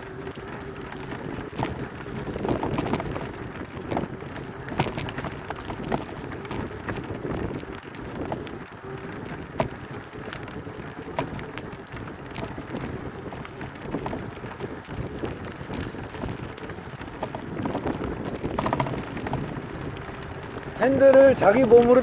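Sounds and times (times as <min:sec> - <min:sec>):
bike clicks and knocks: 0:00.0 - 0:22.0
tyres rolling over dirt: 0:00.0 - 0:22.0
wind buffeting microphone: 0:00.0 - 0:22.0.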